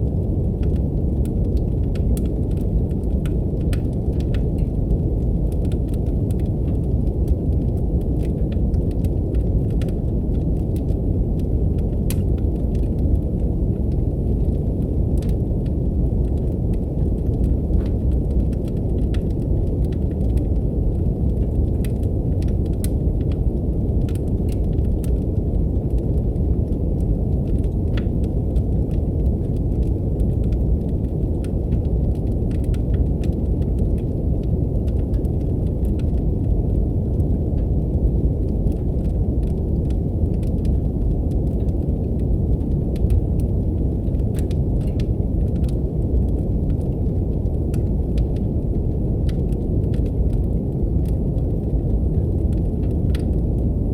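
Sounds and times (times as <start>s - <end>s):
brown noise hiss: 0.0s - 53.9s
wood fire crackling: 0.0s - 53.9s.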